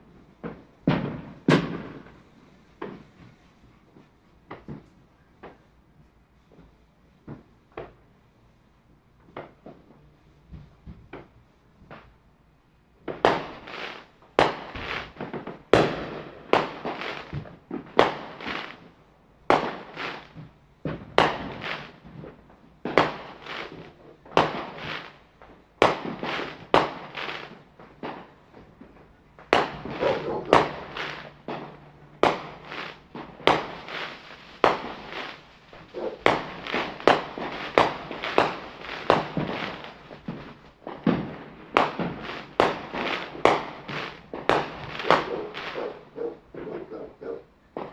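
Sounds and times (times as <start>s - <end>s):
fireworks bangs echoing: 0.0s - 5.7s, 13.0s - 47.9s.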